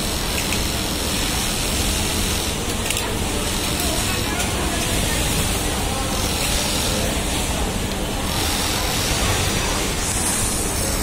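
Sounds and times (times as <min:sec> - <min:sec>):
sewing machines whirring: 0:00.0 - 0:11.0.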